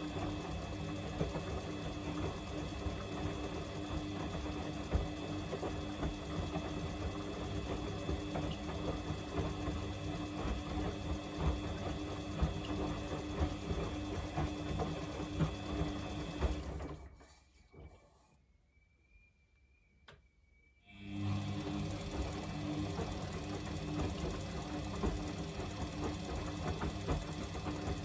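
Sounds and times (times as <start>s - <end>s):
washing machine motor hum: 0.0s - 18.2s, 20.9s - 28.0s.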